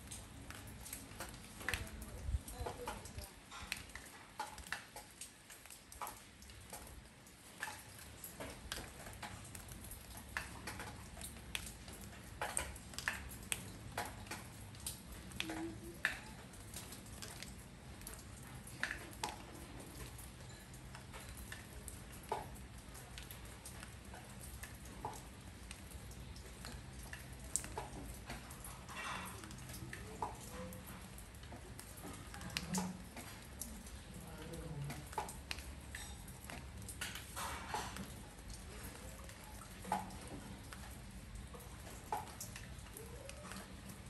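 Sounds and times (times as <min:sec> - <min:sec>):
raindrops pattering: 0:00.0 - 0:44.0.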